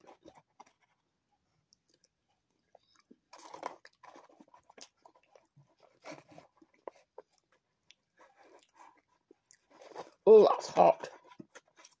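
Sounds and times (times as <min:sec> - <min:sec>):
person chewing: 0:00.0 - 0:01.0, 0:01.6 - 0:10.2, 0:11.2 - 0:12.0.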